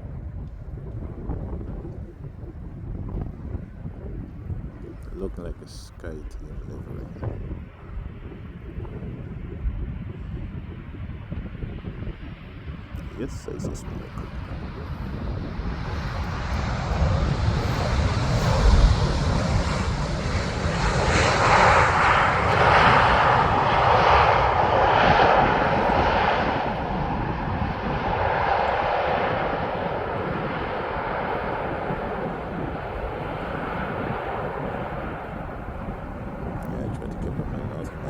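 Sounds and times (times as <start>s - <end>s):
jet engine roar: 0.8s - 38.0s.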